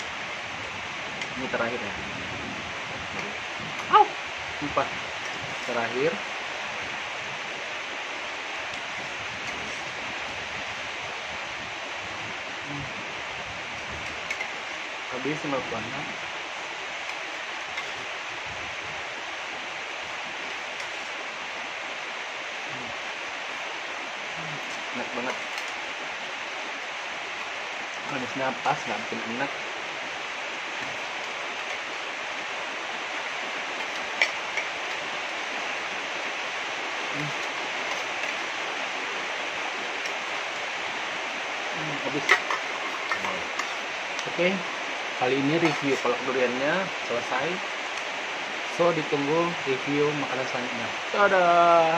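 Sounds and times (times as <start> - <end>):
heavy rain hissing: 0.0 - 51.9.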